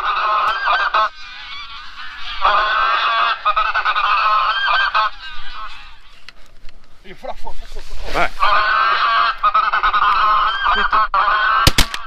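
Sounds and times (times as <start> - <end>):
flock of geese honking: 0.0 - 6.4, 8.2 - 12.0.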